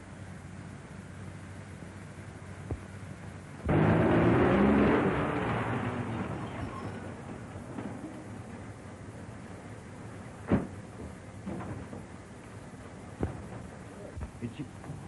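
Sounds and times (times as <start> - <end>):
car engine rumbling: 0.0 - 15.0
film soundtrack hiss: 0.0 - 15.0.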